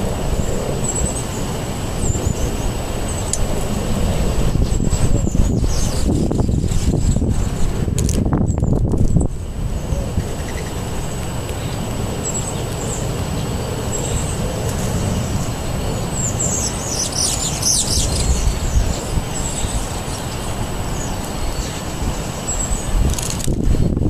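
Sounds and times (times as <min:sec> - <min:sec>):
songbirds chirping: 0:00.0 - 0:07.3, 0:08.3 - 0:23.3.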